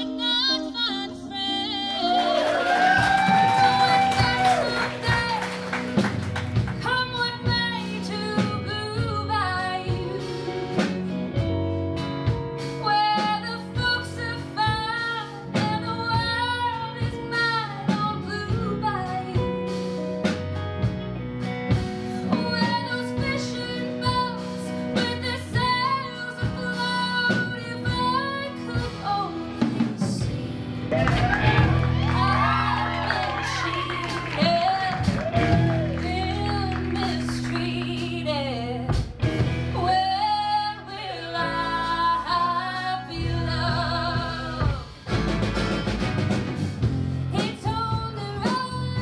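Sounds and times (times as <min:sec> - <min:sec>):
woman singing: 0:00.0 - 0:11.0, 0:12.7 - 0:20.0, 0:22.1 - 0:45.1, 0:47.3 - 0:49.0
band with drum kit: 0:00.0 - 0:49.0
acoustic guitar: 0:03.1 - 0:49.0.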